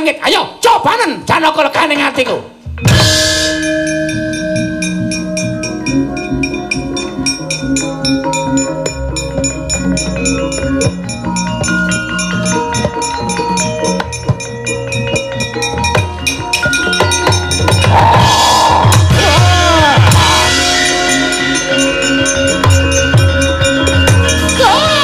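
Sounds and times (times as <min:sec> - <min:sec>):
drumming: 0:02.7 - 0:25.0.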